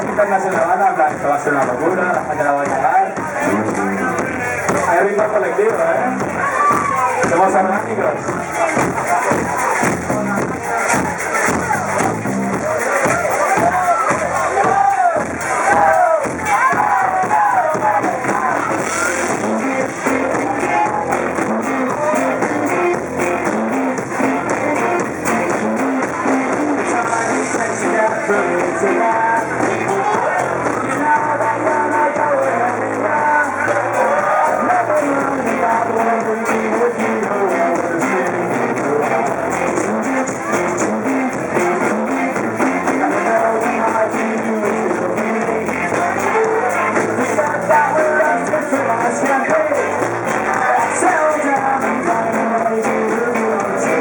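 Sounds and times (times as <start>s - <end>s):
person singing lead vocal: 0.0s - 54.0s
rock band playing: 0.0s - 54.0s.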